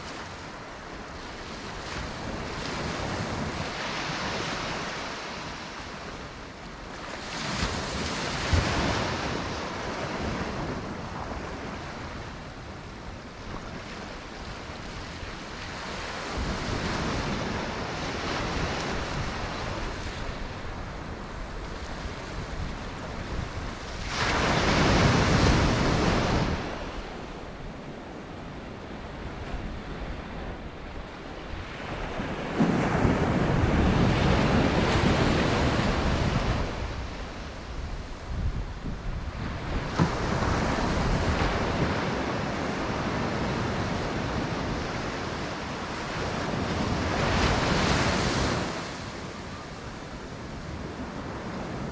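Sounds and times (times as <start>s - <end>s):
waves breaking on beach: 0.0s - 51.9s
wind buffeting microphone: 0.0s - 51.9s.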